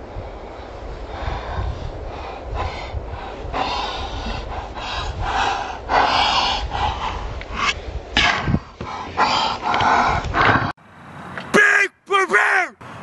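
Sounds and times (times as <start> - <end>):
wind on microphone: 0.0 - 10.8.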